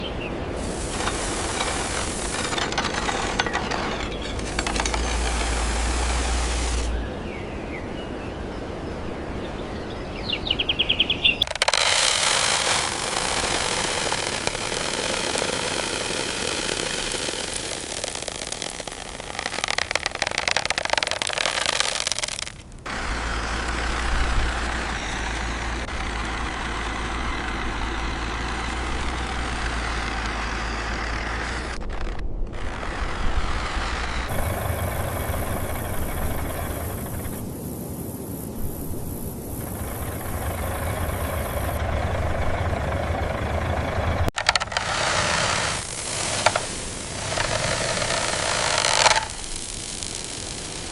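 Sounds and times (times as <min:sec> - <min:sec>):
truck engine rumbling: 0:00.0 - 0:07.3, 0:10.6 - 0:50.9
harsh crackling noise: 0:00.6 - 0:07.0, 0:11.4 - 0:50.9.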